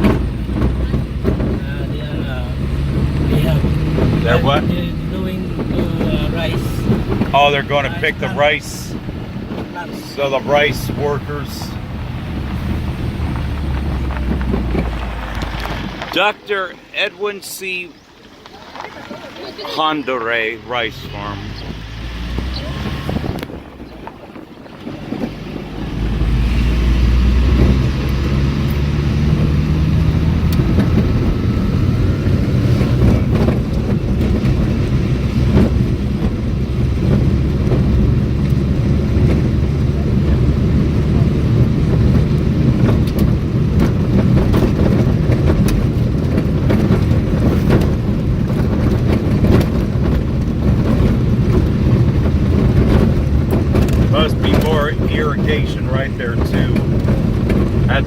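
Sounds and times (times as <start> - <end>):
vehicle engine and road rumble: 0.0 - 58.0.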